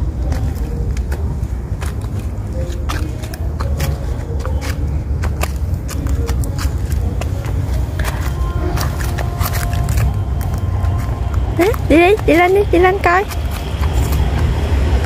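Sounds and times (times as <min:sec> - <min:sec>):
footsteps crackling on dry leaves: 0:00.0 - 0:15.0.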